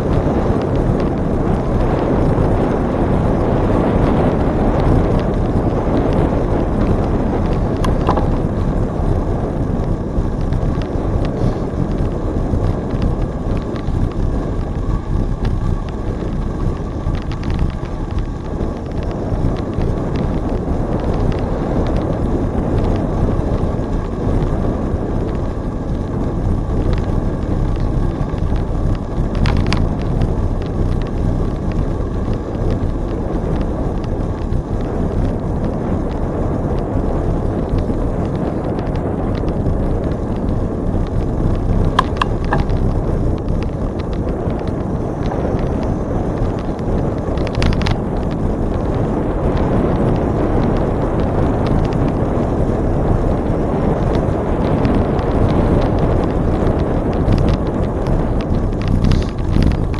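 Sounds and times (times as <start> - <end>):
bicycle tyre rolling noise: 0.0 - 59.9
wind rushing over microphone: 0.0 - 59.9.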